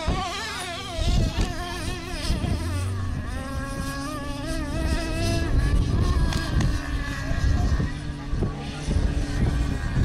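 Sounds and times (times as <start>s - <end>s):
small engine buzzing at high revs: 0.0s - 10.0s.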